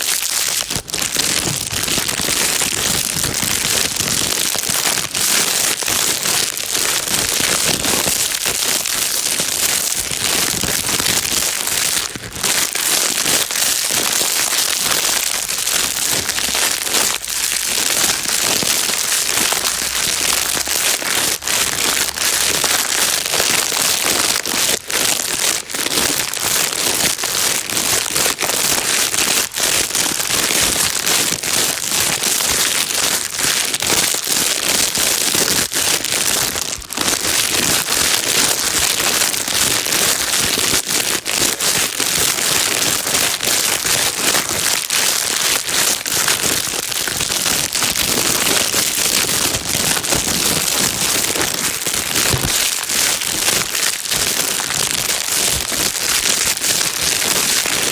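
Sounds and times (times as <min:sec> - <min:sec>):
plastic bag crinkling: 0:00.0 - 0:57.9.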